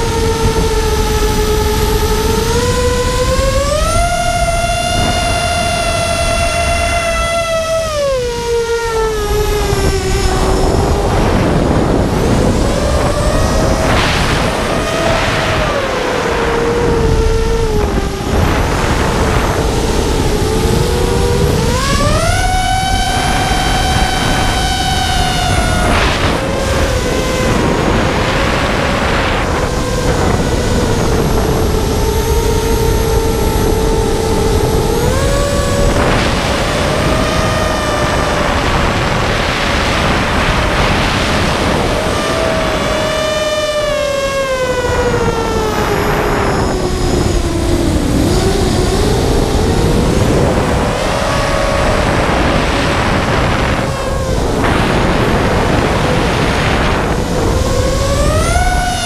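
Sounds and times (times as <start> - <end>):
electric motor whining: 0.0 - 59.0
wind rush on microphone: 0.0 - 59.0.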